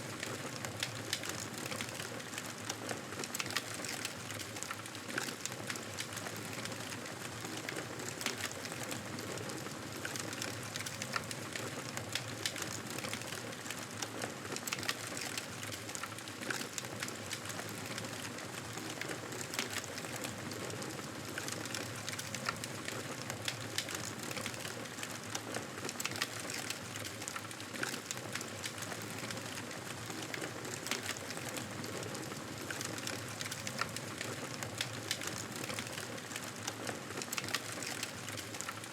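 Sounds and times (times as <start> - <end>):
wood fire crackling and popping: 0.1 - 38.9.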